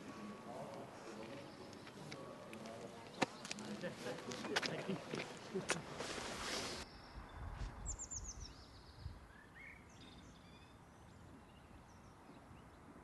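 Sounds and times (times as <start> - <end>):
songbird chirping: 0.1 - 13.0.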